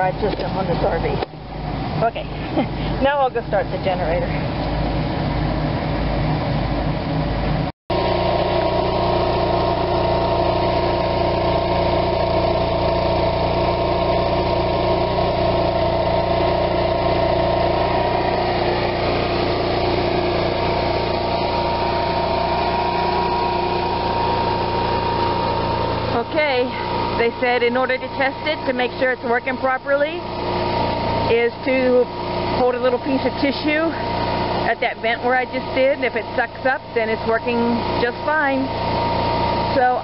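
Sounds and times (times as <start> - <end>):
generator engine hum: 0.0 - 40.0
high steady whine: 0.0 - 40.0.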